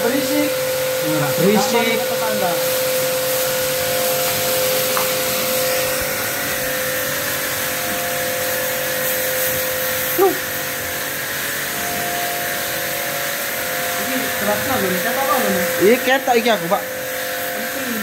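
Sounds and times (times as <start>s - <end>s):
pressure washer motor and pump: 0.0s - 18.0s
water jet hissing: 0.0s - 18.0s.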